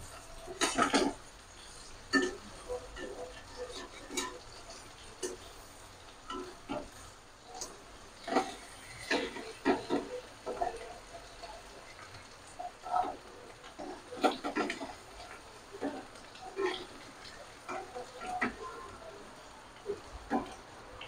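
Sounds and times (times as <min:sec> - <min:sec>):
faint sizzle in hot oil: 0:00.0 - 0:21.0
metal spatula scraping a pan: 0:00.1 - 0:18.8.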